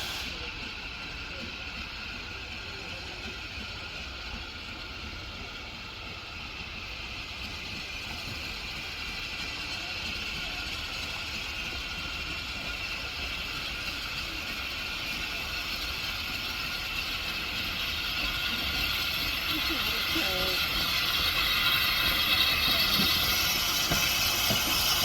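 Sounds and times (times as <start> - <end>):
train clattering and rumbling: 0.0 - 25.0.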